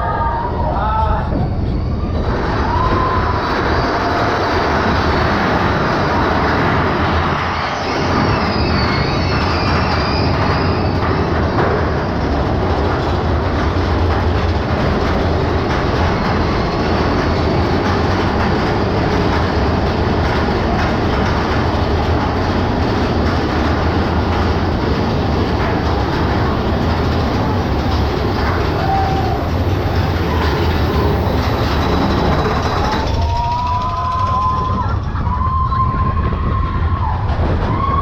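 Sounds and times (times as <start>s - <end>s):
roller coaster wheels rumbling on rail: 0.0s - 38.0s.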